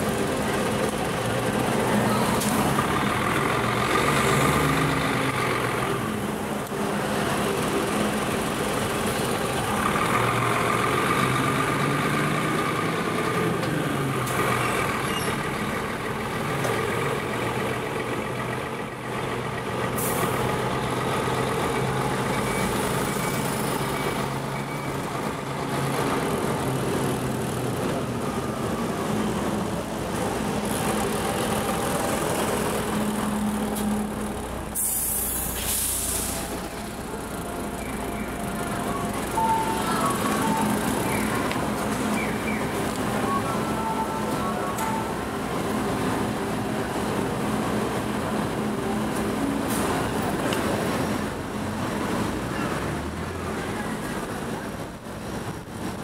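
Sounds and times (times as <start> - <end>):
vehicle engines humming: 0.0 - 56.0.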